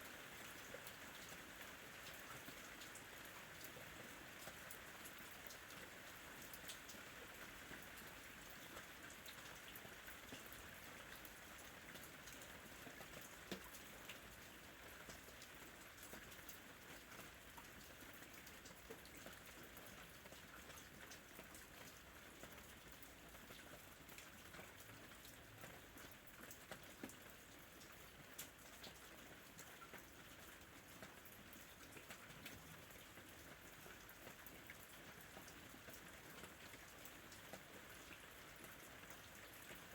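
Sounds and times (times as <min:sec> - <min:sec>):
faint rain with drop ticks: 0:00.0 - 0:39.9.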